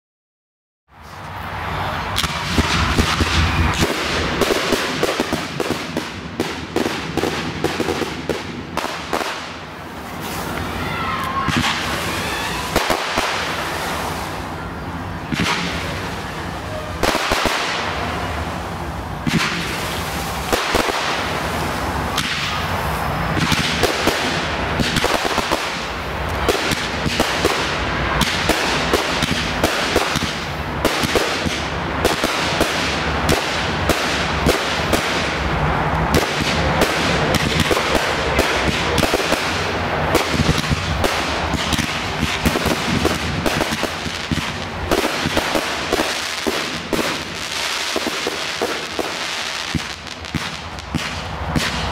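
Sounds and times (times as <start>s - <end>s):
fireworks crackling: 1.0s - 51.9s
fireworks cracks and bangs: 1.2s - 51.9s.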